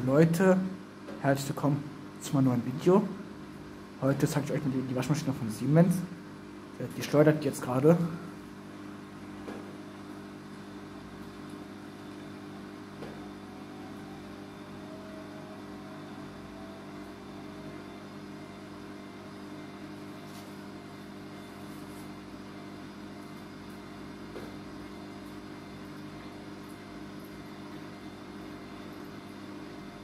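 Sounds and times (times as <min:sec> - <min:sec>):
washing machine spinning: 0:00.0 - 0:30.0.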